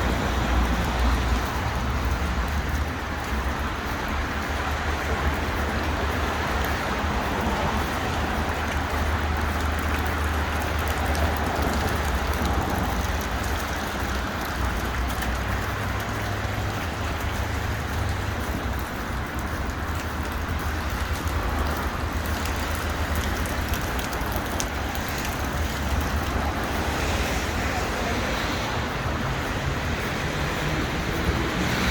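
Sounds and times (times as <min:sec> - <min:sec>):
low traffic rumble: 0:00.0 - 0:31.9.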